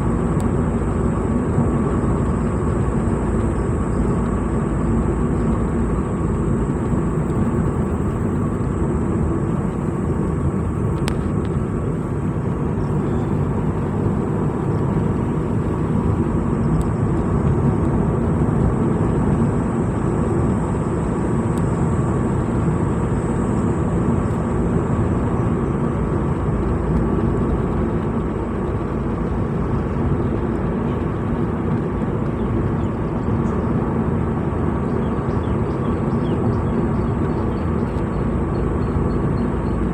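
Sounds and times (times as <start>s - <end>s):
faint high whine: 0.0s - 39.9s
vehicle engine and road rumble: 0.0s - 39.9s.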